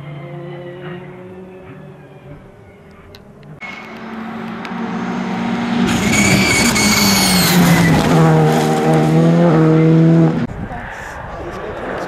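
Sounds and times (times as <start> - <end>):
rally car engine revving: 0.0 - 10.5.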